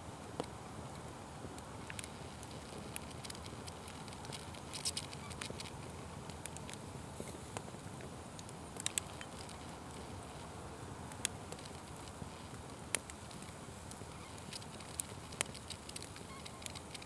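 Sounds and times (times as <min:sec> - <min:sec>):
fire crackling and popping: 0:00.2 - 0:17.0.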